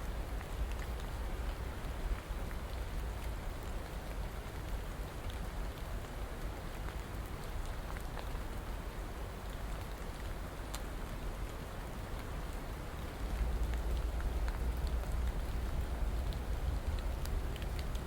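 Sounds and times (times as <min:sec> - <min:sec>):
raindrops ticking on a surface: 0:00.0 - 0:18.0
steady rain hiss: 0:00.0 - 0:18.0.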